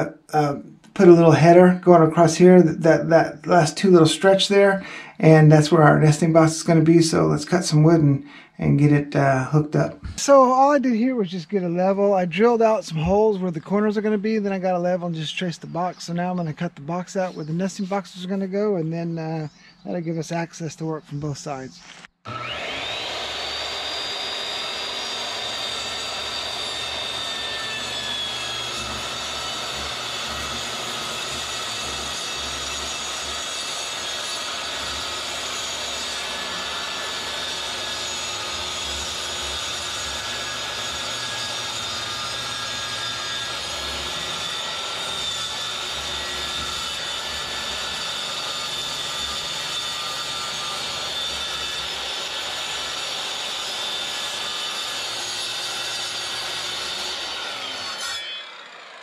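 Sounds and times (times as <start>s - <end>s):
circular saw cutting wood: 0.0s - 59.0s.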